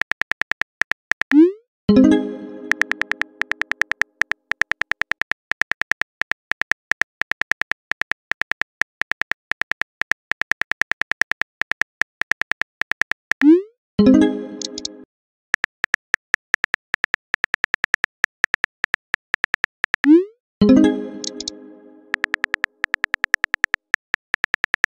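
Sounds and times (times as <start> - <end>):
phone keyboard typing clicks: 0.0 - 1.4, 2.7 - 13.5, 14.6 - 14.9, 15.6 - 20.2, 21.2 - 21.5, 22.1 - 24.9.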